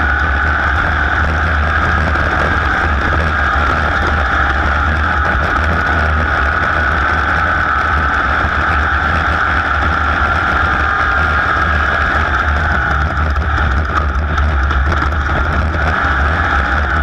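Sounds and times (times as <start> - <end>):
racing engine running loud: 0.0 - 17.0.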